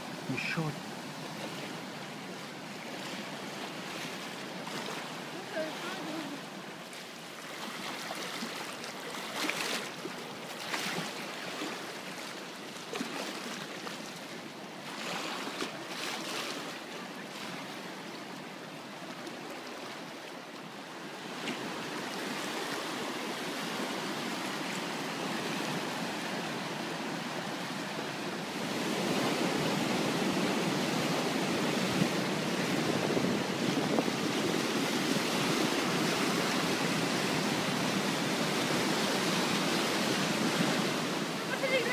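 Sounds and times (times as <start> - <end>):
river floodwater rushing: 0.0 - 41.9.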